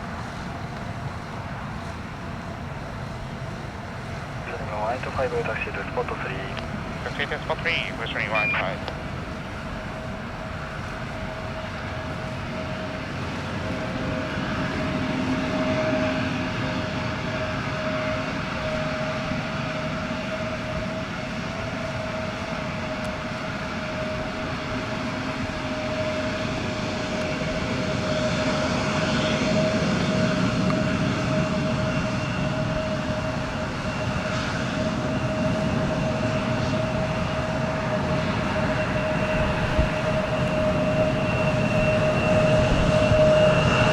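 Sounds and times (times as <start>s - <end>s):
jet engines at taxi power: 0.0s - 43.9s.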